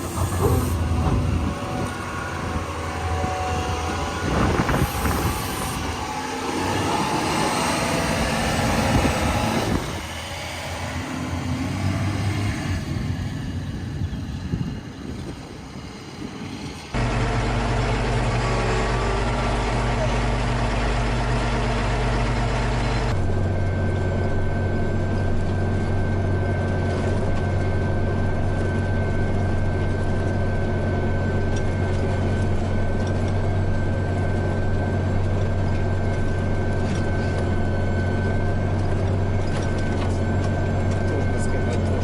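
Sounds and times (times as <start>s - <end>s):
heavy engine running under load: 0.0s - 42.0s.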